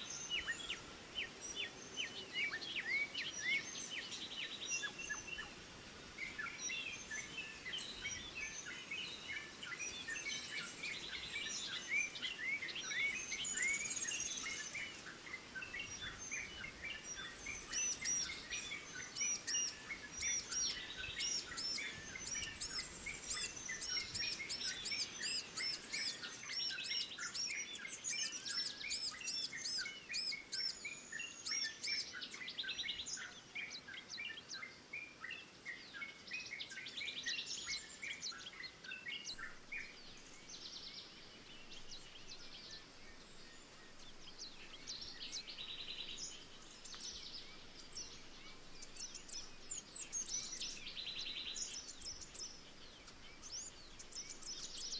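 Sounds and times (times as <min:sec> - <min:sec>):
small songbirds chirping: 0:00.0 - 0:54.9.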